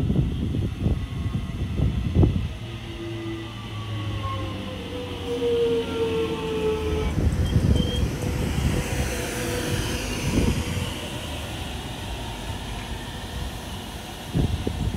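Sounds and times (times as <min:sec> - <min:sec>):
train rumbling: 0:00.0 - 0:14.9.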